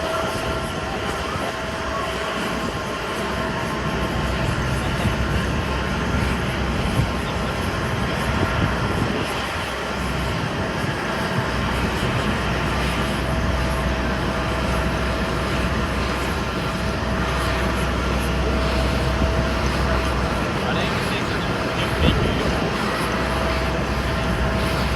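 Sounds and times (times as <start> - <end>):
jet engines rushing: 0.0 - 24.9.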